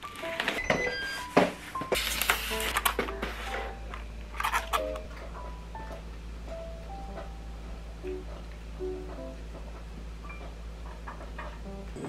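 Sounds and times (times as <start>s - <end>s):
light background music: 0.0s - 12.0s.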